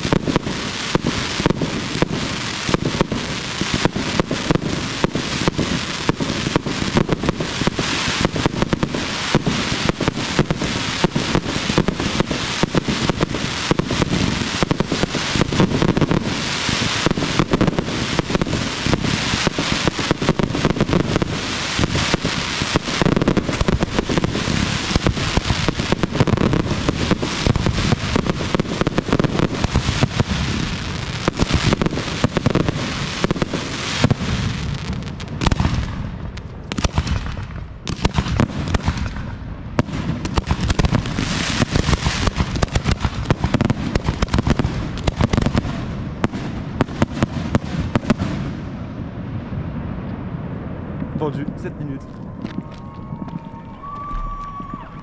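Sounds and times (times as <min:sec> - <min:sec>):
fireworks crackling: 0:00.0 - 0:55.0
fireworks launching and bursting: 0:00.0 - 0:55.0.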